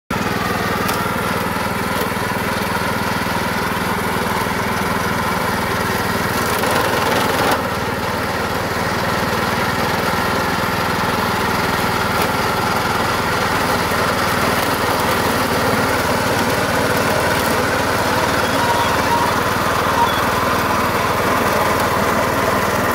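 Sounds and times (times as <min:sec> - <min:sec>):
small petrol engine running: 0:00.1 - 0:22.9.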